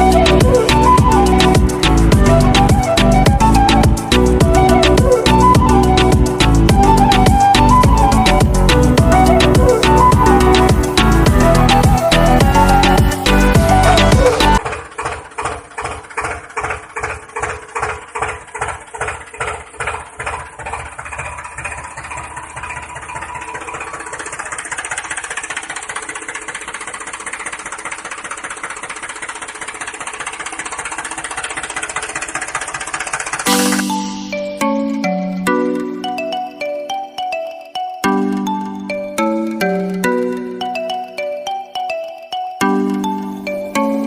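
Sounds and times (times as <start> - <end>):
tractor engine chugging: 0.0 - 41.8, 42.6 - 44.0.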